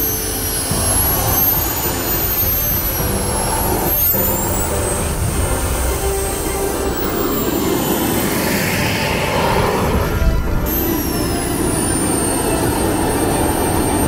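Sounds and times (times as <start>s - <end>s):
model jet turbines whining: 0.0s - 14.0s.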